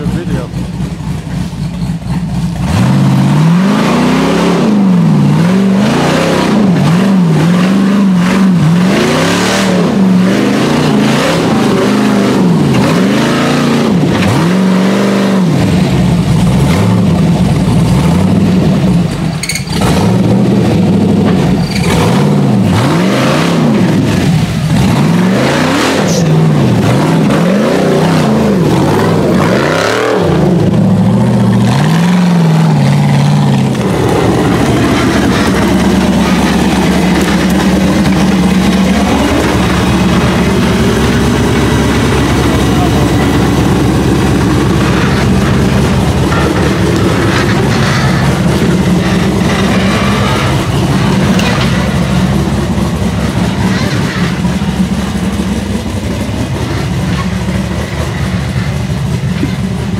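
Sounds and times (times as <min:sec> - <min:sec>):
buggy engines revving hard: 0:00.0 - 0:59.9.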